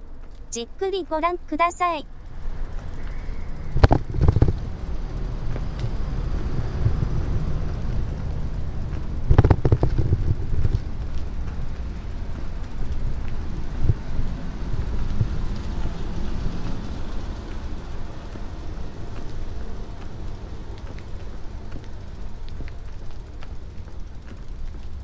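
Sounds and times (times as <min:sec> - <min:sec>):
low steady rumble: 0:02.1 - 0:25.0
bicycle clicks and rattles: 0:02.5 - 0:25.0.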